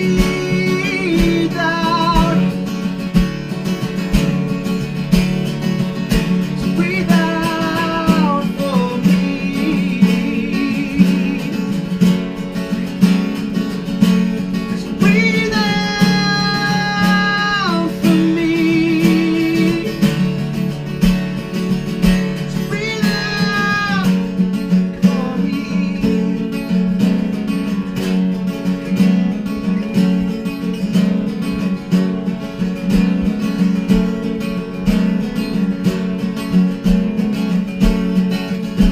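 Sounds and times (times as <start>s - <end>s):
strummed acoustic guitar: 0.0s - 38.9s.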